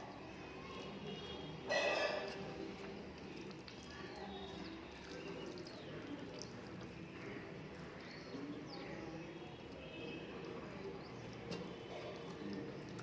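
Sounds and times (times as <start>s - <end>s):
soft chewing and mouth noises: 0.0s - 13.0s.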